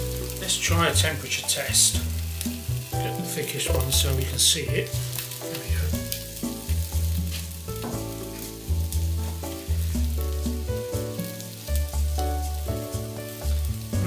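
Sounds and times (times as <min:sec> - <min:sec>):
bossa nova music: 0:00.0 - 0:14.0
sausages sizzling: 0:00.0 - 0:14.0.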